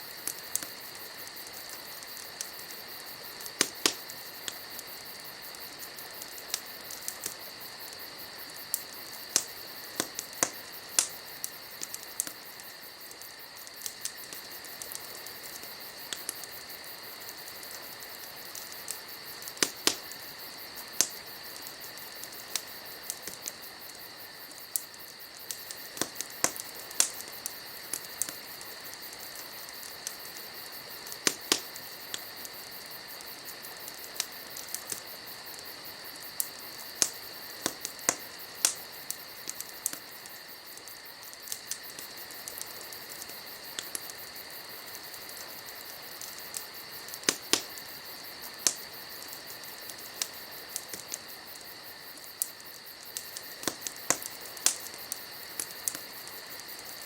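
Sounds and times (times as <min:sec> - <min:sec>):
crickets chirping: 0:00.0 - 0:57.0
wood fire crackling and popping: 0:00.0 - 0:57.0.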